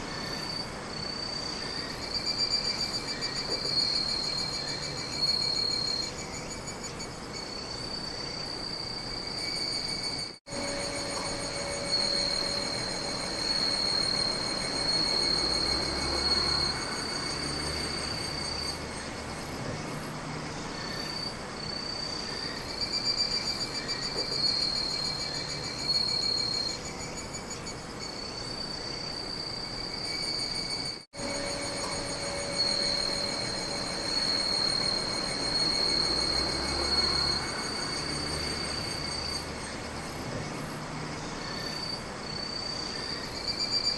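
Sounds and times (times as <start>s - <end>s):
night insects trilling: 0.0s - 43.9s.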